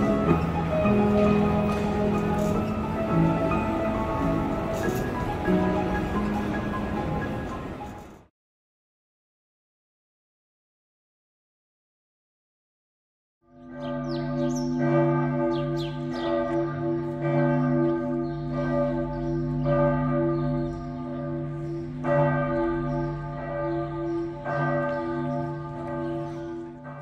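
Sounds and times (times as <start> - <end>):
church bells pealing: 0.0 - 8.3, 13.5 - 27.0.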